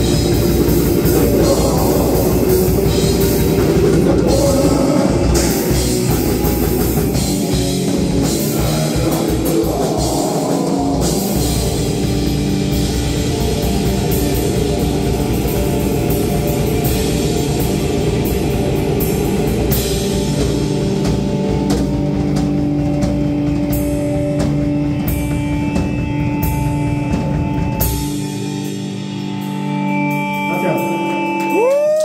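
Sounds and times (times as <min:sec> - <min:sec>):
bass guitar: 0:00.0 - 0:32.0
distorted guitars: 0:00.0 - 0:32.0
drum kit: 0:00.0 - 0:32.0.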